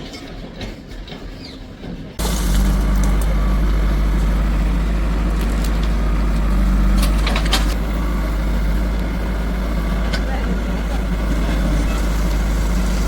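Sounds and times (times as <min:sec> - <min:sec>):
diesel engine running: 0:02.2 - 0:13.0.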